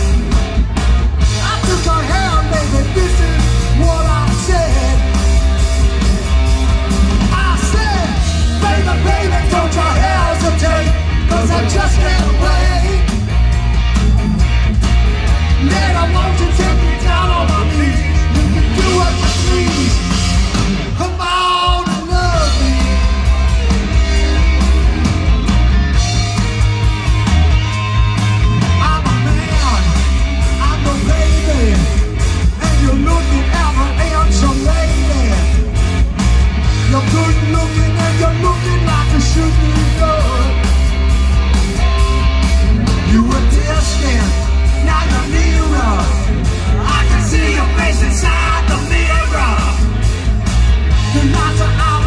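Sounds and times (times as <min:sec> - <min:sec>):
bass guitar: 0:00.0 - 0:52.0
distorted electric guitars: 0:00.0 - 0:52.0
drums: 0:00.0 - 0:52.0.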